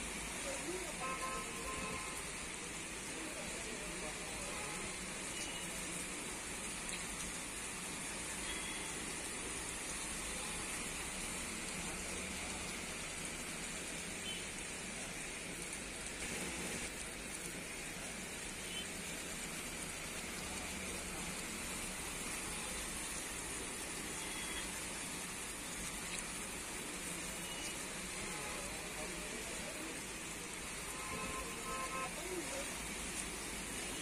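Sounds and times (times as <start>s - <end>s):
heavy rain on plants and paving: 0.0s - 34.0s.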